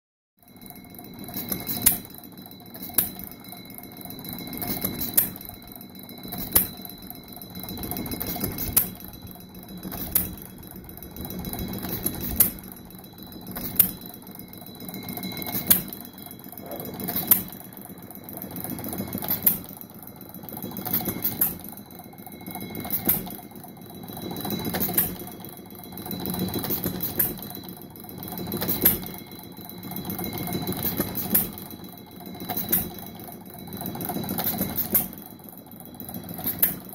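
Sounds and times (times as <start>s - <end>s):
fast mechanical clatter: 0.4s - 36.9s.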